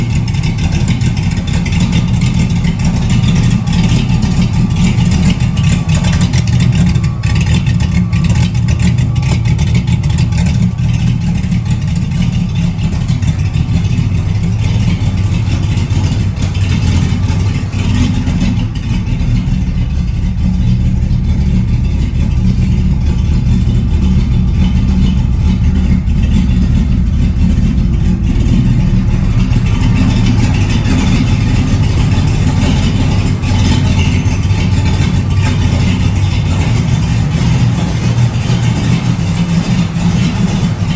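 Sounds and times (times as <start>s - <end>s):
car engine running: 0.0s - 40.9s
fast exhaust ticking: 0.0s - 40.9s.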